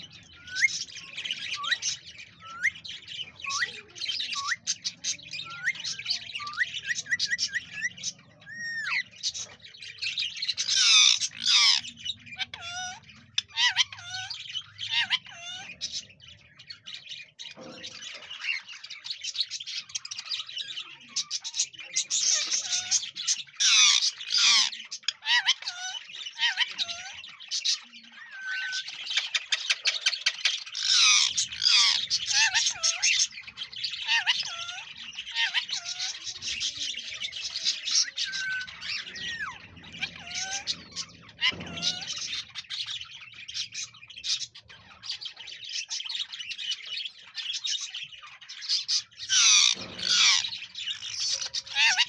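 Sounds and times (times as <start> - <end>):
birds chirping and squawking: 0.0 - 52.0.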